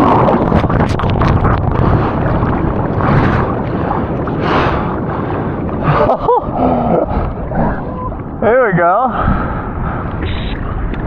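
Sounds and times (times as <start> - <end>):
surf churning: 0.0 - 11.0.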